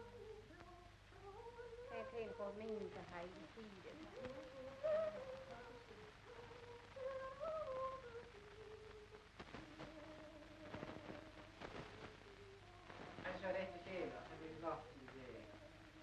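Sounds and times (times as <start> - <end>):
person humming softly: 0.0 - 14.0, 15.0 - 16.0.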